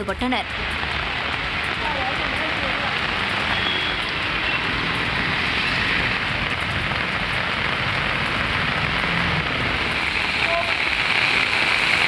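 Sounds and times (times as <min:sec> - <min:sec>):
rain on a wet street: 0:00.0 - 0:12.0.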